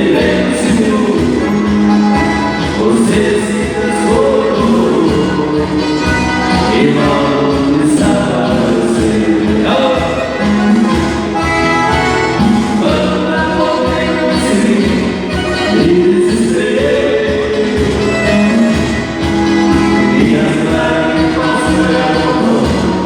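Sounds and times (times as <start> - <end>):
song with voices and instruments: 0.0 - 23.0.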